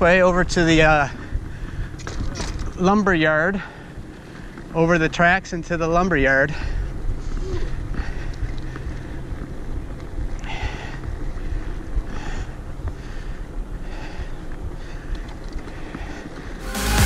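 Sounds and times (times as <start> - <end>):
low rumble of bike rolling: 0.0 - 16.6
wind buffeting camera microphone: 0.0 - 16.6.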